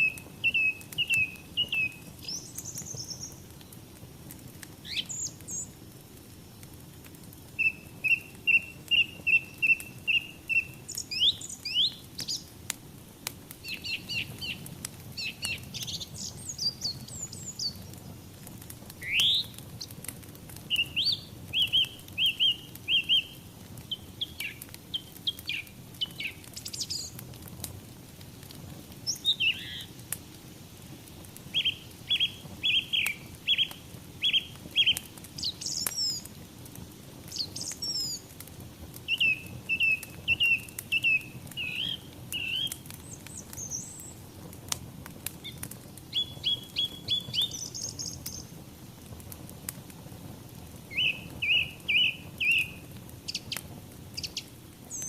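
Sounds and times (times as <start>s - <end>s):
songbirds chirping: 0.0s - 12.6s, 13.4s - 27.3s, 28.9s - 30.0s, 31.4s - 36.4s, 37.2s - 38.3s, 39.0s - 44.3s, 45.4s - 48.6s, 50.8s - 55.0s
wood fire hissing and crackling: 0.0s - 55.0s.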